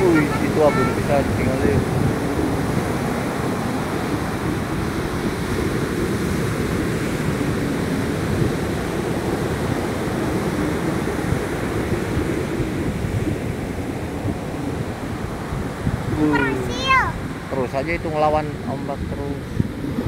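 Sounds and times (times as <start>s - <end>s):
ocean surf breaking on beach: 0.0s - 20.0s.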